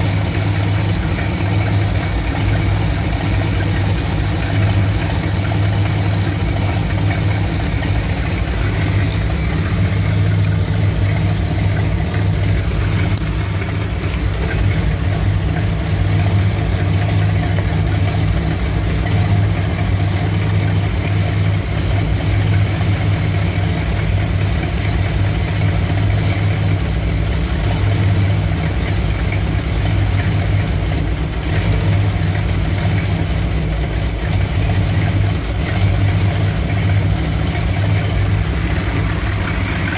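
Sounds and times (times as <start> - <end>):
engine idling roughly: 0.0 - 39.9.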